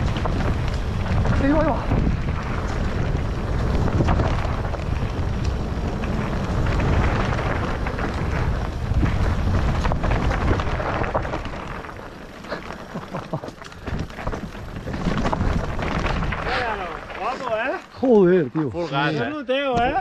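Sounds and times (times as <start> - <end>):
wind buffeting microphone: 0.0 - 17.9
mountain bike rattling on trail: 0.0 - 20.0.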